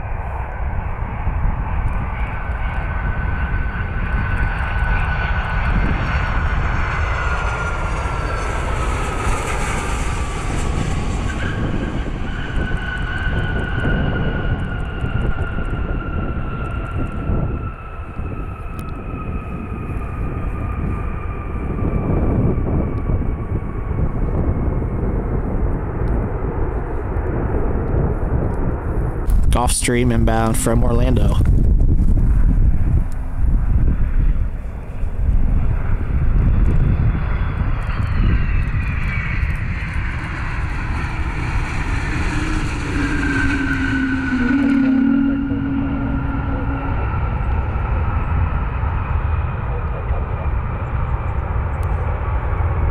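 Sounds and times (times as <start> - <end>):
jet engines rumbling with whine: 0.0 - 52.9.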